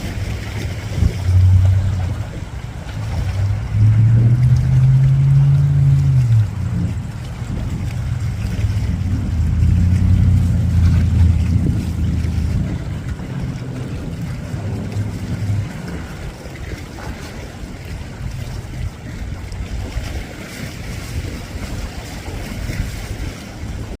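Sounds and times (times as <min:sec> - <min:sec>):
low motor drone: 0:00.0 - 0:20.0
wind rumbling on microphone: 0:00.0 - 0:24.0.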